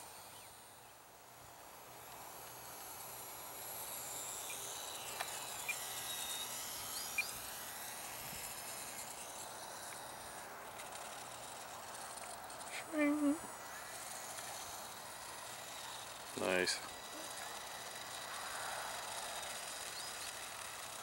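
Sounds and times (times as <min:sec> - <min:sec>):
small electric motor whine: 0:00.0 - 0:21.0.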